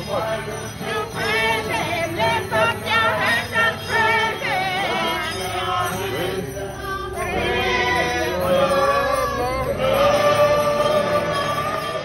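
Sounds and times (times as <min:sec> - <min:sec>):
bell jingling: 0:00.0 - 0:12.0
voices singing a hymn: 0:00.0 - 0:12.0.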